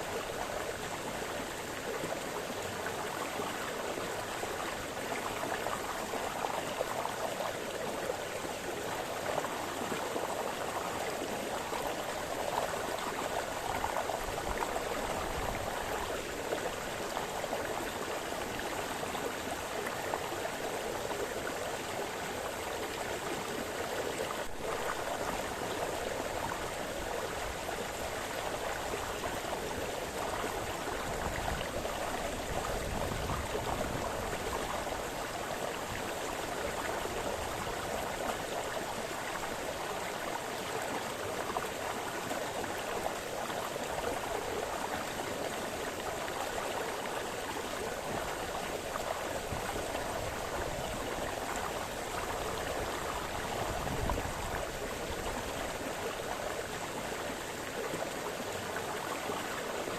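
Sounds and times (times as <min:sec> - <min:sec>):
brook burbling over stones: 0:00.0 - 0:59.9.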